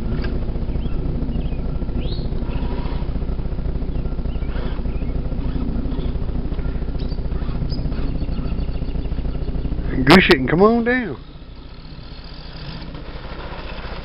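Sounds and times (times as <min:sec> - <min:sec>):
birds chirping: 0:00.0 - 0:14.0
wind buffeting microphone: 0:00.0 - 0:14.0.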